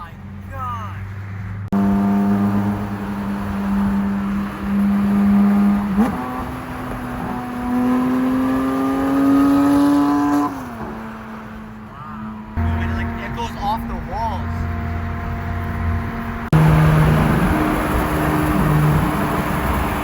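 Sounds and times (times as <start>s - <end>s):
gear change: 0.0s - 20.0s
sports car engine pulling: 0.0s - 20.0s.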